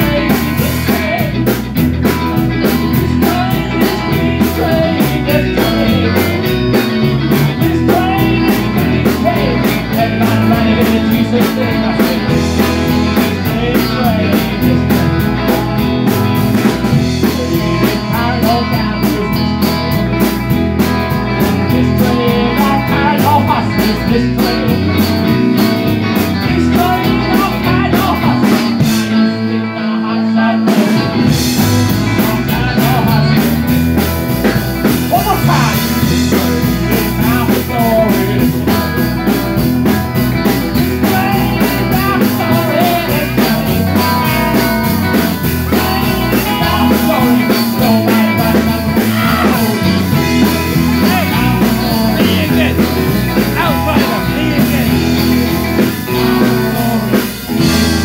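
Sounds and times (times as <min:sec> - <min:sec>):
person singing into a microphone: 0:00.0 - 0:01.5, 0:02.8 - 0:15.9, 0:16.7 - 0:20.2, 0:21.4 - 0:33.8, 0:35.0 - 0:39.1, 0:40.4 - 0:58.0
drum kit: 0:00.0 - 0:29.6, 0:30.4 - 0:58.0
electric guitars: 0:00.0 - 0:58.0.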